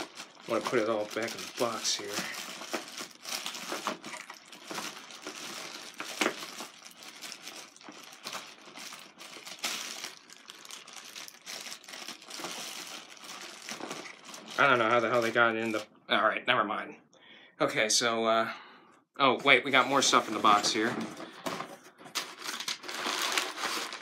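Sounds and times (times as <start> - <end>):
packaging rustling: 0.0 - 15.8, 19.9 - 24.0.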